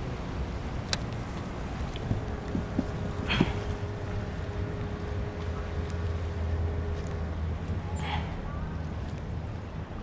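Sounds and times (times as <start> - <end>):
faint steady hum: 0.0 - 10.0
wind rumbling on microphone: 0.0 - 10.0.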